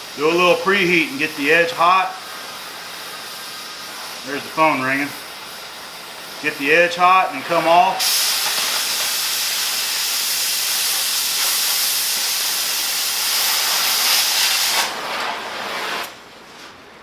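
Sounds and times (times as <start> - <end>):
cutting torch hissing: 0.0 - 16.2.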